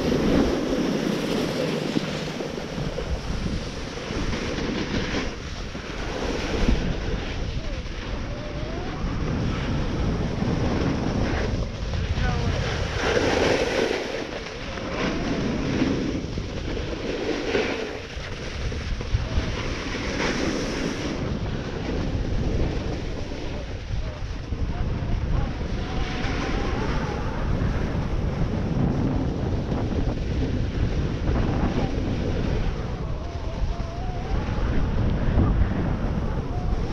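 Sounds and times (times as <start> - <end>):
snowboard sliding on snow: 0.0 - 36.9
wind buffeting microphone: 0.0 - 36.9.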